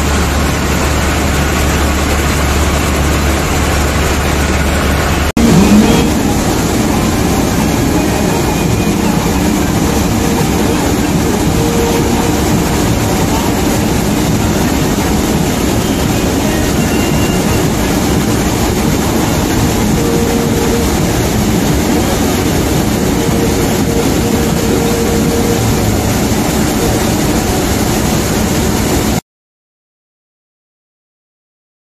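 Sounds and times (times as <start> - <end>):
combine harvester running: 0.0 - 29.2.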